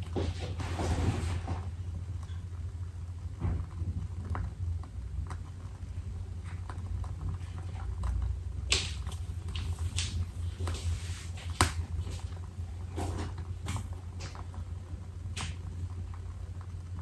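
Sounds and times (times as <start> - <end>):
candle wick crackling: 0.0 - 17.0
low steady hum: 0.0 - 17.0.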